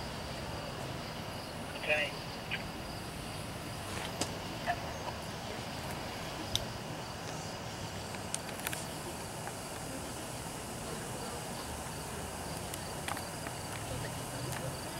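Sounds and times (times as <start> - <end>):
crickets chirping: 0.0 - 14.9.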